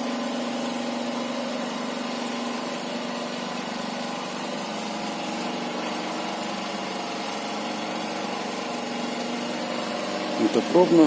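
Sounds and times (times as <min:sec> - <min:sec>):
motor humming with fast flutter: 0:00.0 - 0:11.0.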